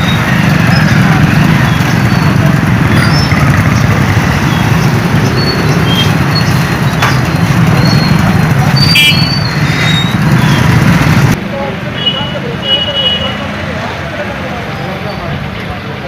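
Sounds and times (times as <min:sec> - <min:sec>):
loud vehicle noise: 0:00.0 - 0:16.0.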